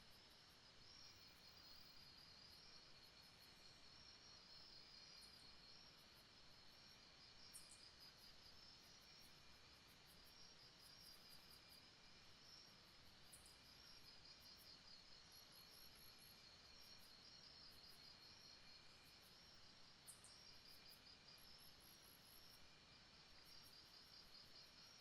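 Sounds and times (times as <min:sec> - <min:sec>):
insects chirring: 0:00.1 - 0:25.0.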